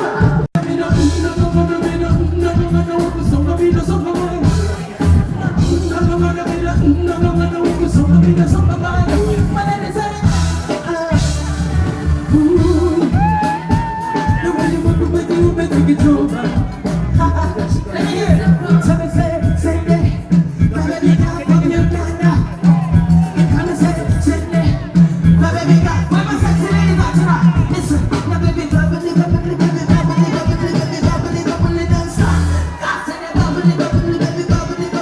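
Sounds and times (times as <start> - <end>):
heavy bass beat: 0.0 - 35.0
person singing: 0.0 - 35.0.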